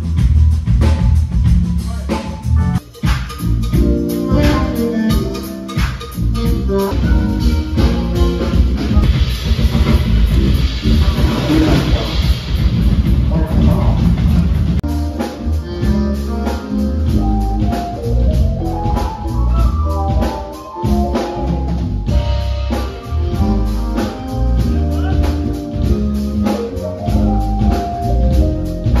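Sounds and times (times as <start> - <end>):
music with steady drum beat: 0.0 - 29.0.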